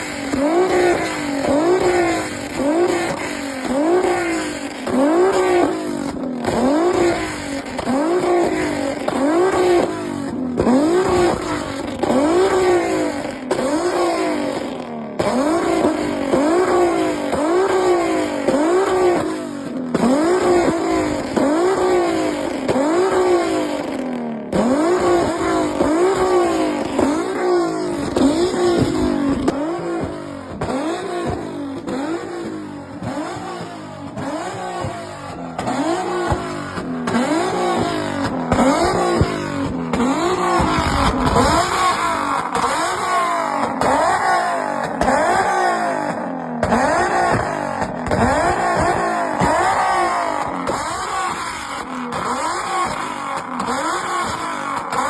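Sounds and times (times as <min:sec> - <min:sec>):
engines revving: 0:00.0 - 0:55.0.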